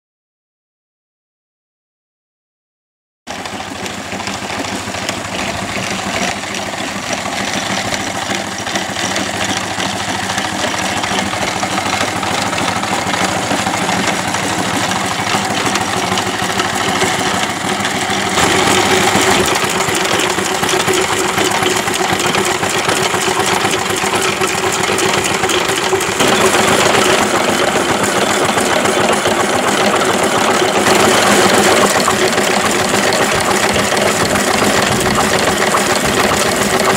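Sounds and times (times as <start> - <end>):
steam traction engine running: 3.3 - 36.9.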